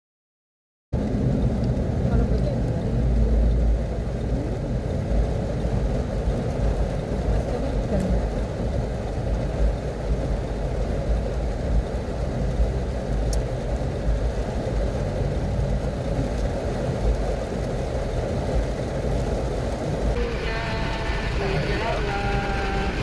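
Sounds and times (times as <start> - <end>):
heavy rain and wind on a car: 0.9 - 23.0.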